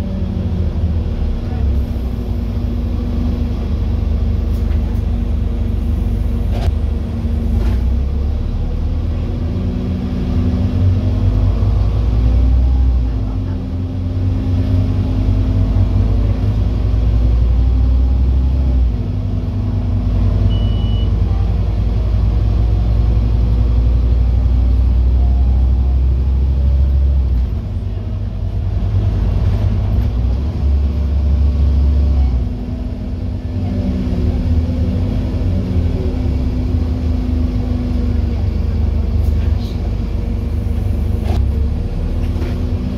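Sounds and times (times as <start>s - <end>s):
bus diesel engine rumbling: 0.0s - 42.9s.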